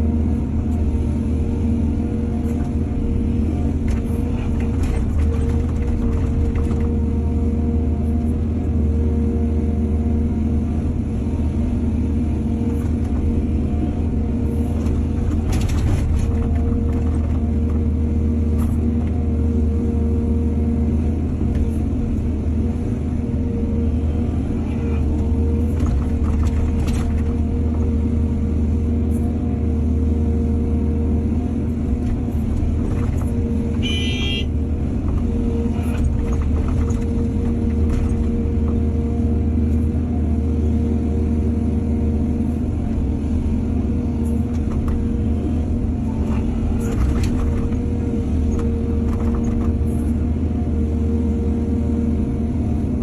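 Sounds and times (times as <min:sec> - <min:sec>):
diesel excavator engine: 0:00.0 - 0:53.0.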